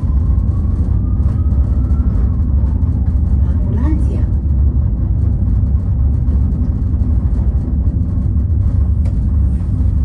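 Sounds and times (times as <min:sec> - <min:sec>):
cable car cabin rumbling: 0:00.0 - 0:10.0.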